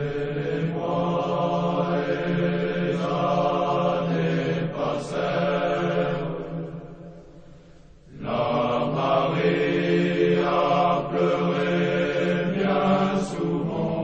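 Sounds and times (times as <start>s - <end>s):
group singing marching song: 0.0s - 6.5s, 8.1s - 14.0s.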